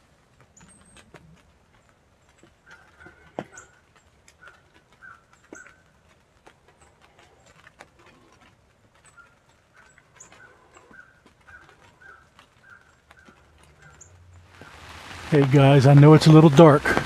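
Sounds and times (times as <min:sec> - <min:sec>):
faint rain patter: 0:00.0 - 0:17.0
raindrops tapping on blind: 0:00.0 - 0:17.0.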